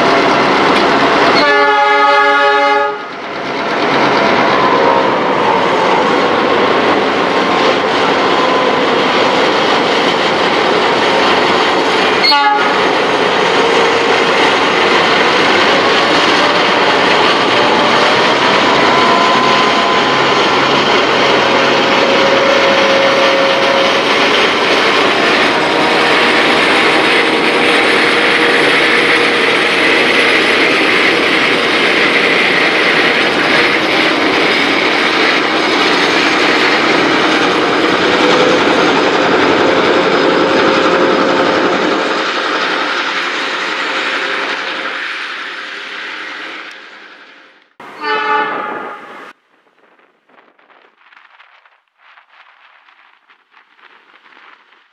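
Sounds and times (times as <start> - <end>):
steel wheels rumbling on rails: 0.0 - 54.9.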